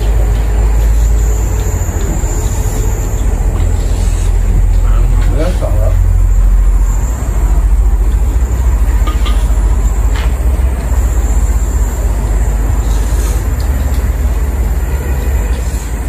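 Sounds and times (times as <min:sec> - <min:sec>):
rain on a metal roof: 0:00.0 - 0:16.0.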